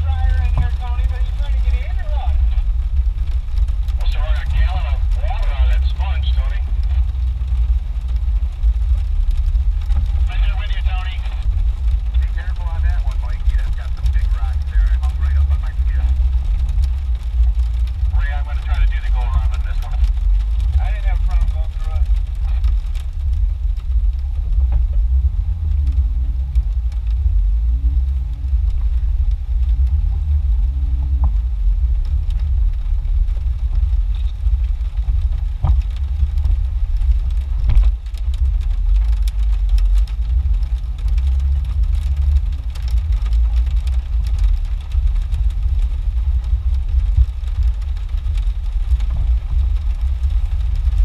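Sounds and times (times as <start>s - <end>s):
engine rumbling: 0.0s - 51.0s.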